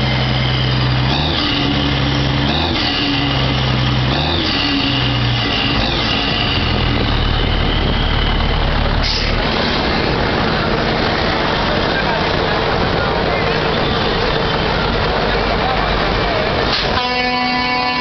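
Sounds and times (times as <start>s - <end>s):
truck engines running: 0.0s - 18.0s.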